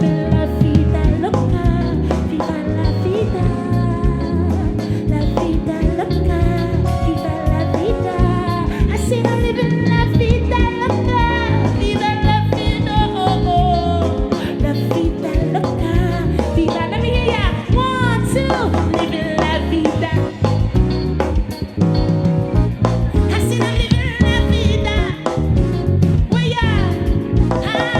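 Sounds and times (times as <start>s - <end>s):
woman singing: 0.0s - 20.8s, 23.2s - 25.6s, 26.2s - 27.9s
bass and drums groove: 0.0s - 27.9s.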